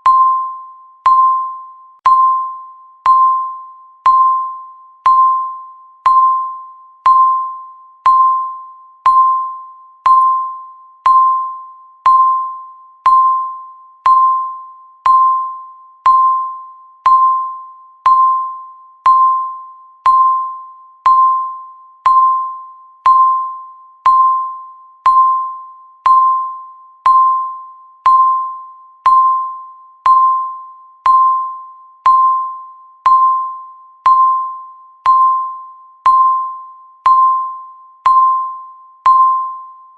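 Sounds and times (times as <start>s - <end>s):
timer ticking with bell-like pings: 0.0s - 39.9s.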